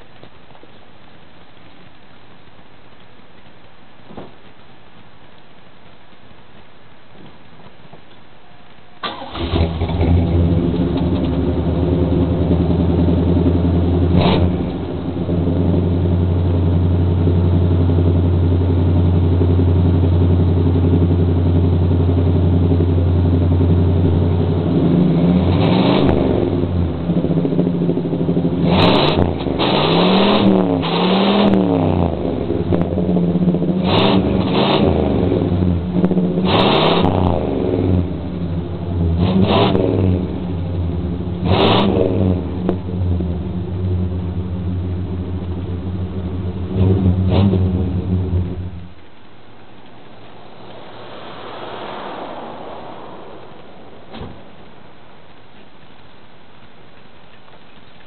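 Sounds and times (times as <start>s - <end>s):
car engine idling and revving: 9.0s - 56.7s.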